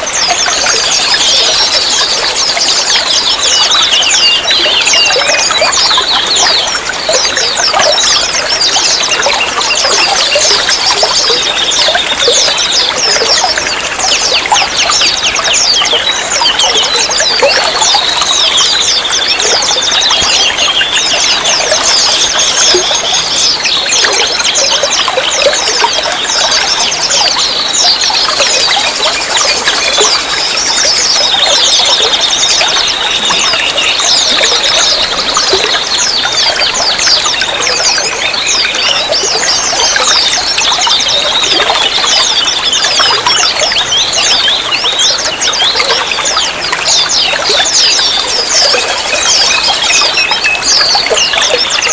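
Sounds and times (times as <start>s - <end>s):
water trickling and pouring: 0.0s - 51.9s.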